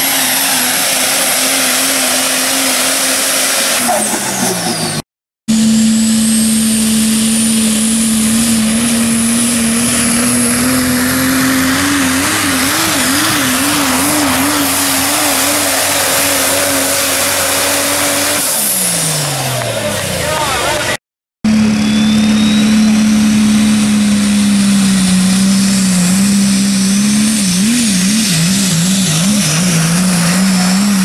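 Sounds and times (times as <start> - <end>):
turbocharger whistle: 0.0 - 19.7, 21.5 - 31.0
diesel truck engine at high rpm: 0.0 - 31.0.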